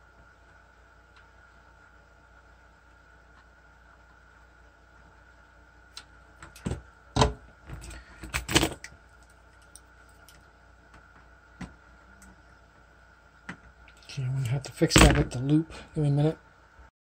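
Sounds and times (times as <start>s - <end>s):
faint high-pitched hum: 0.0s - 16.9s.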